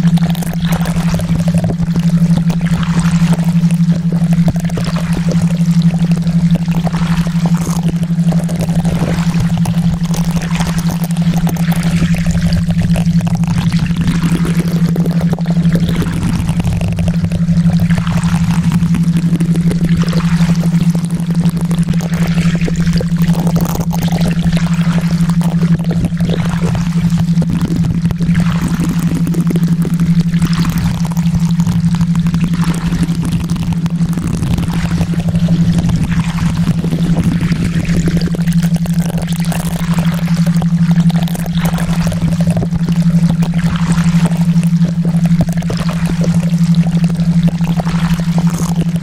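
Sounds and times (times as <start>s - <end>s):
low droning tone: 0.0s - 49.0s
pulsing low hum: 0.0s - 49.0s
rushing water-like noise: 0.0s - 49.0s.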